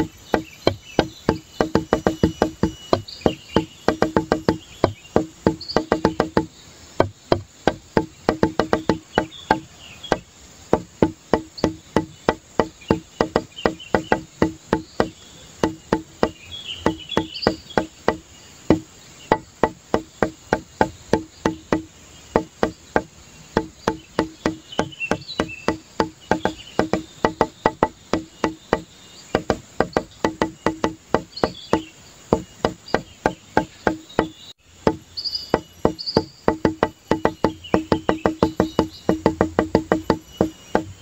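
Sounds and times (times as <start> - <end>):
music with wood-block beat: 0.0 - 41.0.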